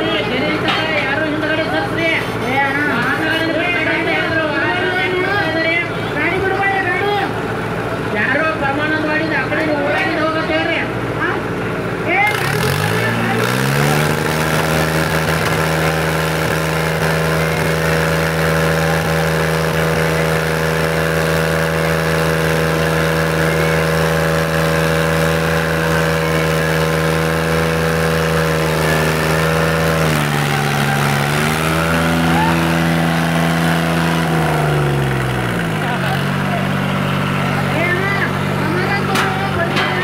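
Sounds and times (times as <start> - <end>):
tractor diesel engine revving: 0.0 - 40.0.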